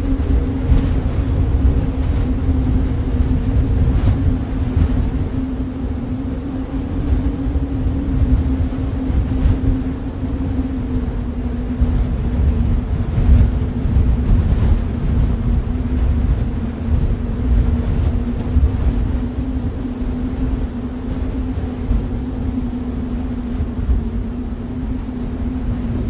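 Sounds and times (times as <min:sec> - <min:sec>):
low droning hum: 0:00.0 - 0:26.0
low rumble of wind: 0:00.0 - 0:26.0.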